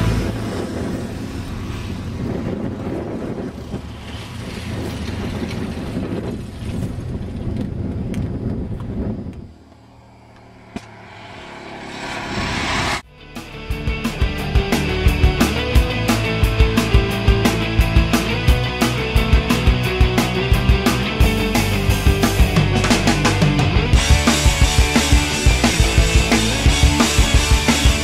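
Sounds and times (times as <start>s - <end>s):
engine running: 0.0s - 4.8s, 8.4s - 28.0s.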